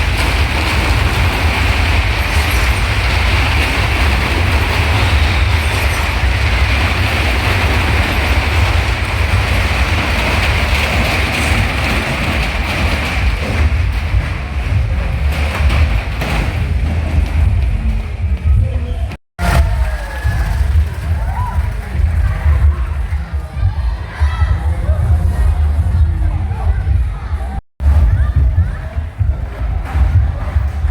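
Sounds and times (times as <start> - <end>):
deep rumble from wooden boards: 0.0 - 30.9.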